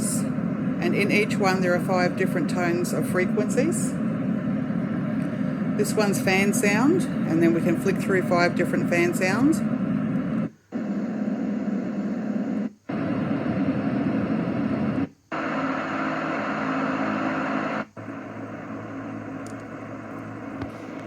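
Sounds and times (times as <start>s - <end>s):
white noise machine fan sound: 0.0s - 21.0s.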